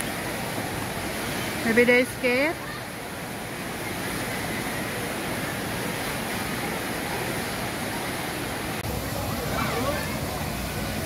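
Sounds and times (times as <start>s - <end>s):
water rushing down waterslides: 0.0s - 11.0s.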